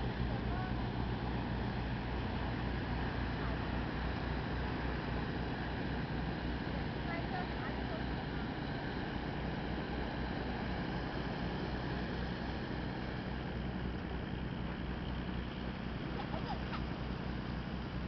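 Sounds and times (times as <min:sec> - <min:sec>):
barge engine pulsing: 0:00.0 - 0:18.0.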